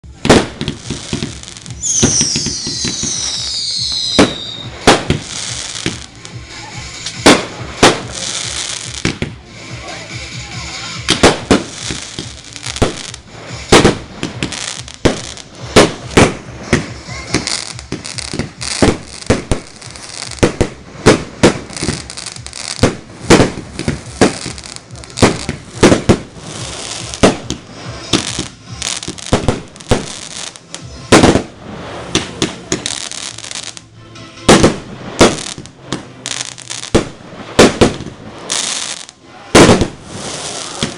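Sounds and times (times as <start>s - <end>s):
fireworks bangs and crackles: 0.0s - 40.9s
fireworks whistles: 0.2s - 33.8s, 34.5s - 40.9s.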